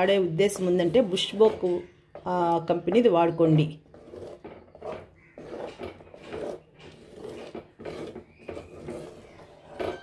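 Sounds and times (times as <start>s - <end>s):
wooden spatula scraping jam in pot: 0.0s - 10.0s.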